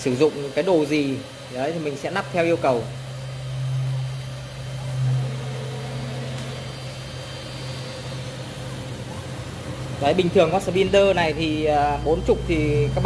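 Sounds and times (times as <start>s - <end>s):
electric motors humming: 0.0s - 13.0s.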